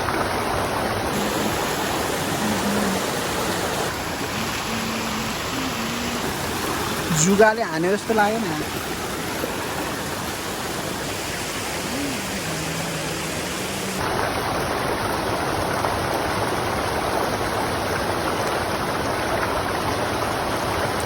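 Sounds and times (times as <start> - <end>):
rushing river water: 0.0 - 21.0.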